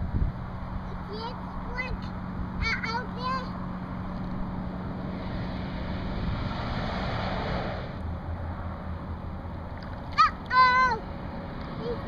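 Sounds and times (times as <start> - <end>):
low engine drone: 0.0 - 12.0
vehicle passing: 0.0 - 12.0
wind: 0.0 - 12.0.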